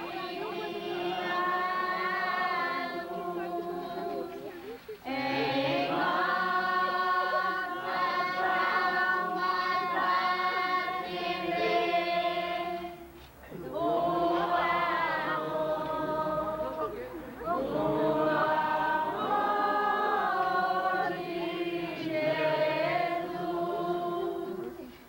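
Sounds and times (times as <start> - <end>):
group singing a hymn: 0.0 - 25.0.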